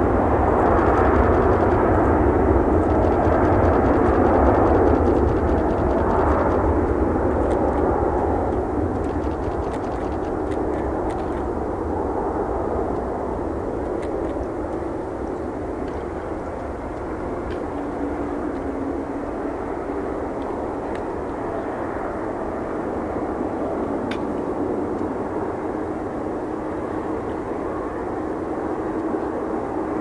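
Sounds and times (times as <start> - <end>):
jet engines at takeoff: 0.0 - 30.0.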